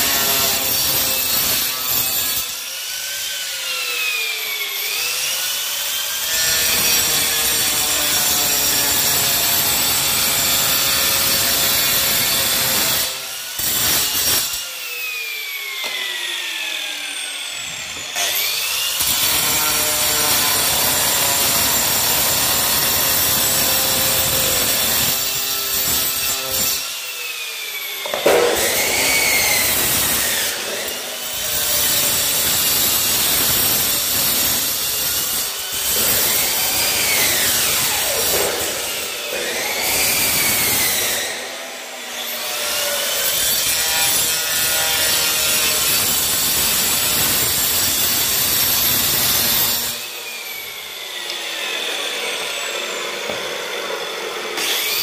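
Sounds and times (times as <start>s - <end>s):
angle grinder cutting tile: 0.0s - 55.0s.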